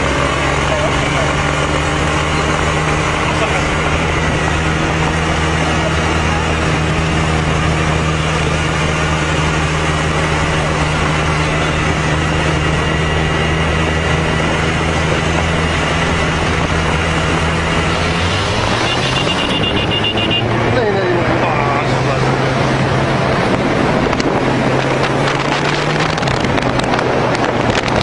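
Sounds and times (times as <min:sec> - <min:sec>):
road and wind rush: 0:00.0 - 0:28.0
vehicle engine cruising: 0:00.0 - 0:28.0.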